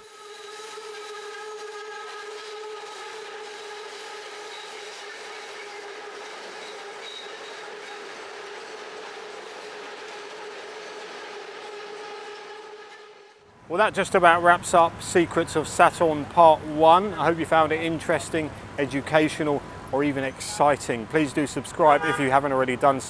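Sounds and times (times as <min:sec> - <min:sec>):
train whine over hiss: 0:00.0 - 0:20.6.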